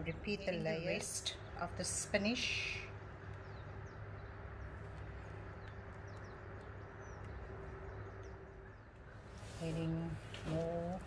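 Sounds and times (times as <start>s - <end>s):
low hum: 0.0s - 11.0s
small birds chirping: 0.0s - 11.0s.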